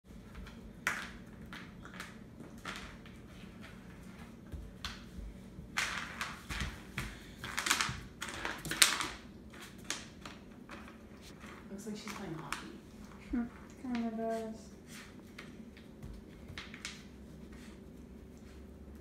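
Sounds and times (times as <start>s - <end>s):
low steady hum: 0.1s - 19.0s.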